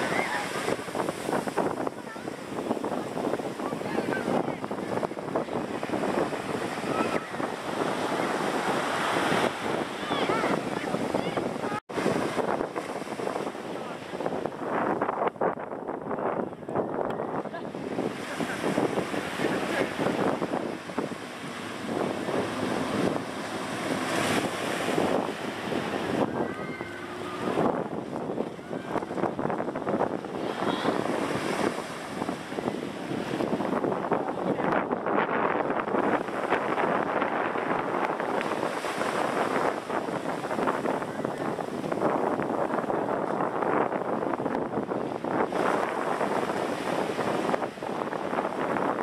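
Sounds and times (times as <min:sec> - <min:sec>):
surf washing up sand: 0:00.0 - 0:49.0
wind buffeting microphone: 0:00.0 - 0:49.0.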